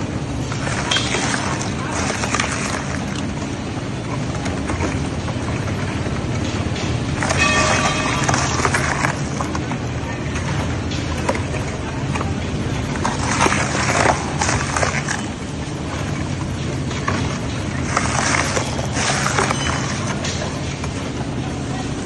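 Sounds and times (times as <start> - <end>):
low machine drone: 0.0 - 22.0.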